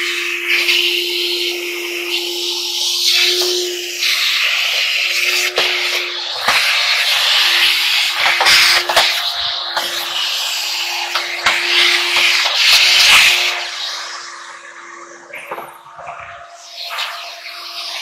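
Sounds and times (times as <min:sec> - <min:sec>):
vacuum cleaner motor hum: 0:00.0 - 0:18.0
vacuum nozzle sucking and scraping: 0:00.0 - 0:18.0.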